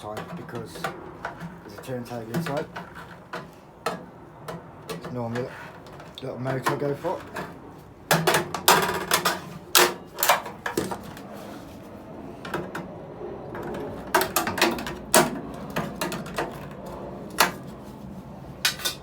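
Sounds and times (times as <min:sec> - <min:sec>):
tools and metal parts clattering: 0:00.0 - 0:11.3, 0:13.5 - 0:17.7, 0:18.6 - 0:19.0.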